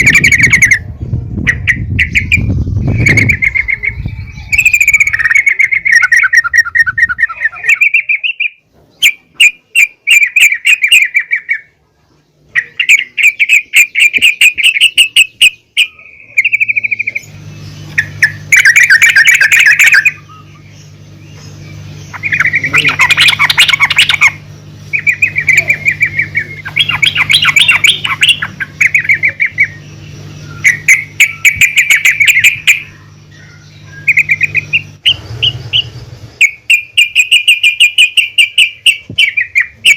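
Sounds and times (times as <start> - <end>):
bird chattering calls: 0.0 - 11.8, 12.4 - 39.9
steady low hum: 0.0 - 39.9.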